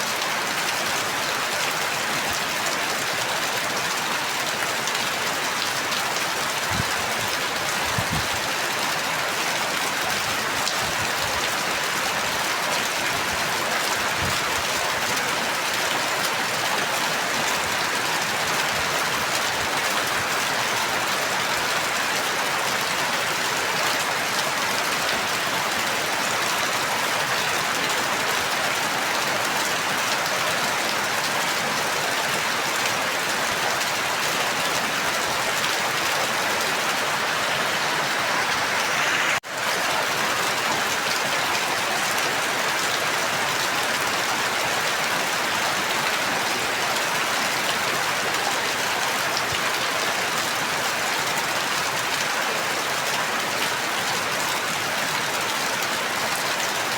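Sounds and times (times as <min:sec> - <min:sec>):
steady rain hiss: 0:00.0 - 0:52.6.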